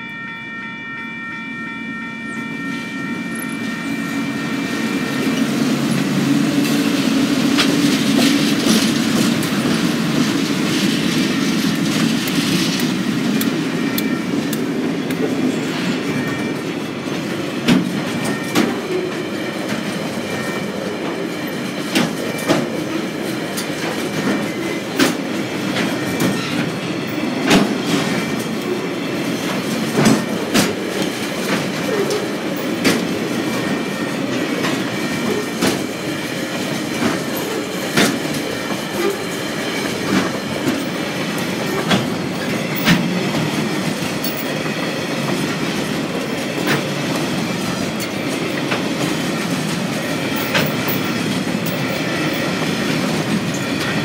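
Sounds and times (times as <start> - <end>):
train wheels rumbling on rail: 2.2 - 54.0
wheels clicking over rail joints: 5.0 - 54.0.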